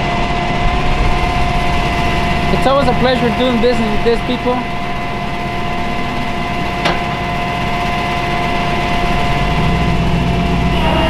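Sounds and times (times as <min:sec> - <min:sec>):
hydraulic whine: 0:00.0 - 0:11.0
truck engine running: 0:00.0 - 0:11.0.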